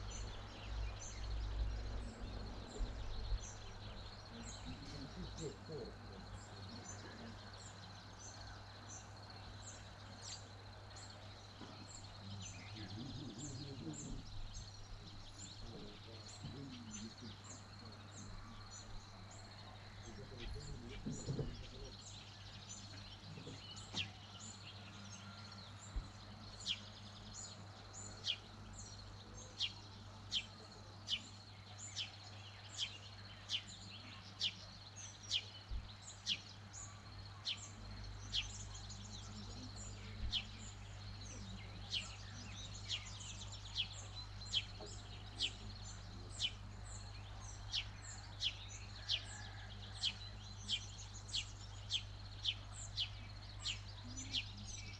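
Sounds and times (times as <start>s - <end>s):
birds twittering: 0.0s - 54.9s.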